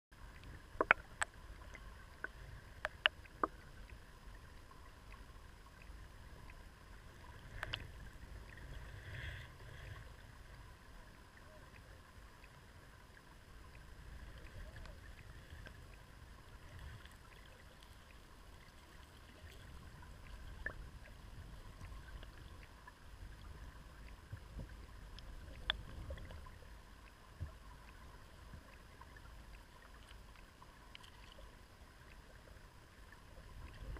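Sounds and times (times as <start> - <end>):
underwater river rumble: 0.1 - 33.9.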